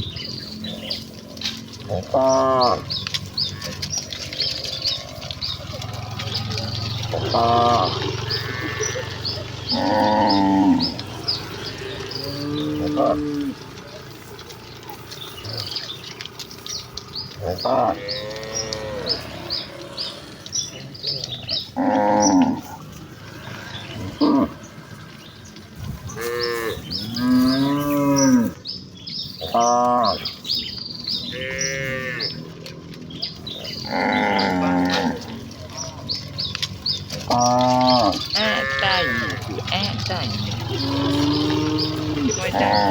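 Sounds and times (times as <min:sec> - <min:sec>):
cattle mooing: 0:00.2 - 0:16.0, 0:16.6 - 0:24.7, 0:26.1 - 0:28.6, 0:29.4 - 0:30.4, 0:31.1 - 0:32.7, 0:33.3 - 0:42.9.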